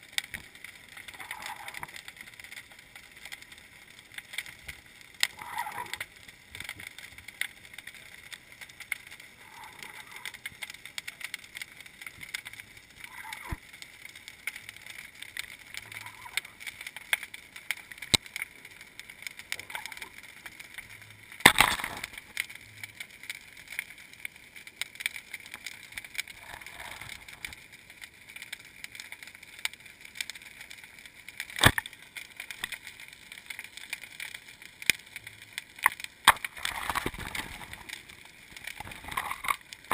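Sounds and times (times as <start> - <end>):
muffled underwater hiss: 0.0 - 39.9
small clicks: 0.1 - 39.9.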